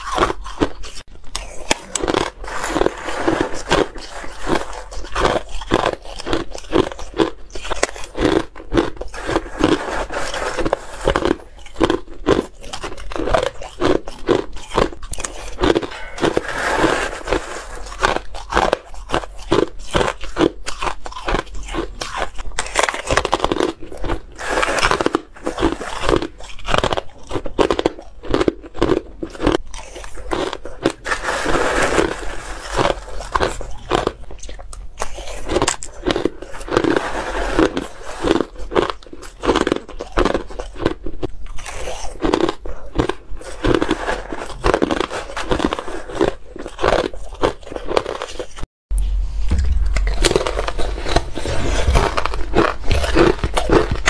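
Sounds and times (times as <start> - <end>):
chewing shaved ice: 0.0 - 48.6, 49.6 - 54.0.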